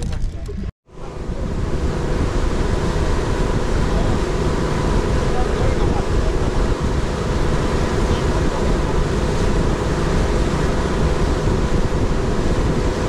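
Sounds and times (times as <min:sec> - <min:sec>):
boat engine running: 0:00.0 - 0:13.0
wind on microphone: 0:00.0 - 0:13.0.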